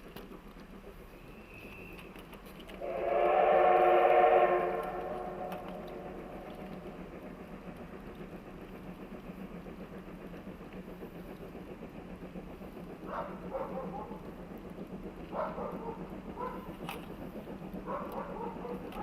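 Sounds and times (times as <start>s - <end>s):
distant train hum: 0.0s - 19.0s.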